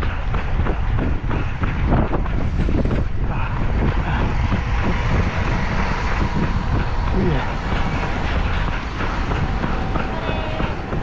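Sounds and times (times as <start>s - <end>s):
running footsteps: 0.0s - 11.0s
wind noise on microphone: 0.0s - 11.0s.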